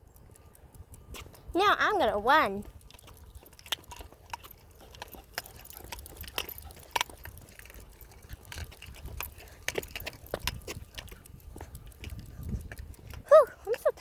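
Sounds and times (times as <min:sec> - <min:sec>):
camera movement rumble: 0:00.0 - 0:14.0.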